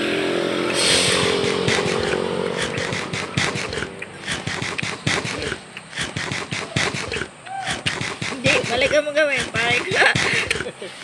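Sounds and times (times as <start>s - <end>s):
passing vehicle engine: 0.0s - 8.9s.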